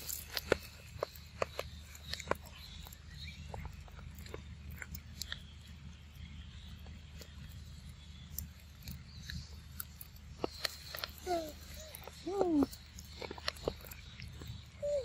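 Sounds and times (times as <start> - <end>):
monkey chewing fruit: 0.0 - 15.0
steady low hum: 0.0 - 15.0.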